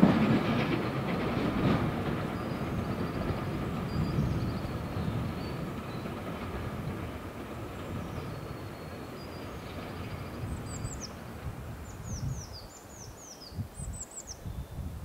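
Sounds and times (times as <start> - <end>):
steam train rumbling: 0.0 - 14.2
birds chirping: 2.1 - 14.8.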